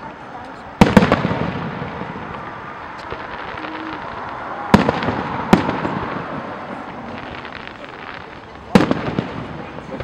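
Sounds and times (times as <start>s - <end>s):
firework bangs with echo: 0.8s - 10.0s
firework burst rumble: 0.8s - 10.0s.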